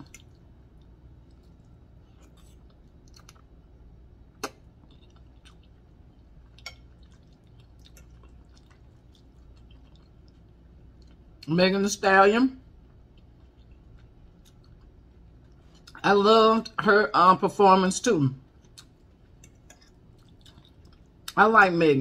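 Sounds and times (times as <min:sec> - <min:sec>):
person chewing food: 0:00.0 - 0:11.5, 0:12.7 - 0:16.1, 0:18.4 - 0:21.4.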